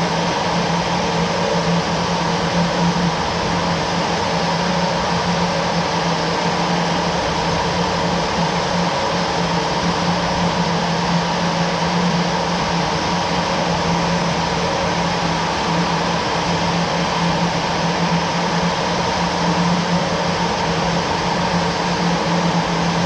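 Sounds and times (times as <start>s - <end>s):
jet engine running: 0.0s - 23.0s.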